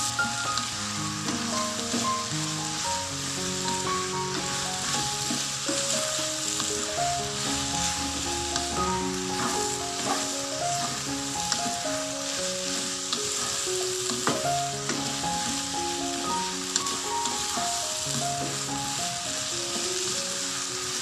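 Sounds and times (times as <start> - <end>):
soft background music: 0.0 - 21.0
vegetables sizzling in a pan: 0.0 - 21.0
wooden spatula scraping a pan: 0.0 - 21.0.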